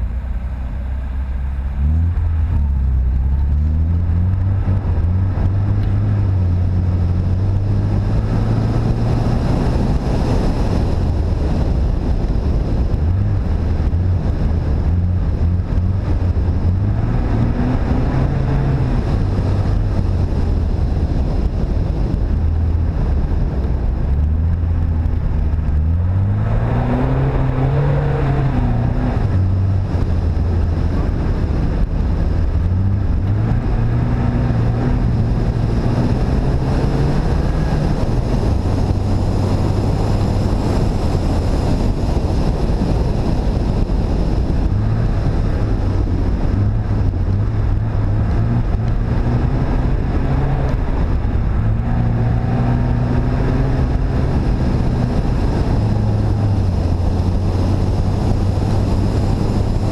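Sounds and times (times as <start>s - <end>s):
car engine revving: 0.0s - 59.9s
tyre and wind noise: 0.0s - 59.9s.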